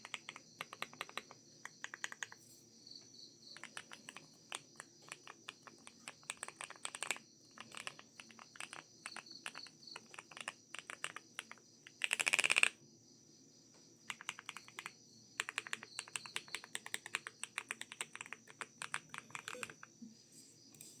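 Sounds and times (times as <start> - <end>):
mechanical keyboard typing: 0.0 - 2.4, 3.6 - 12.7, 14.1 - 19.9.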